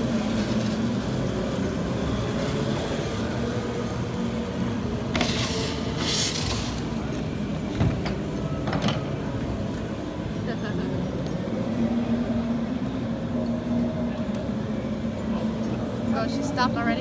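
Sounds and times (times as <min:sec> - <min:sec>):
go-karts mechanical hum: 0:00.0 - 0:17.0.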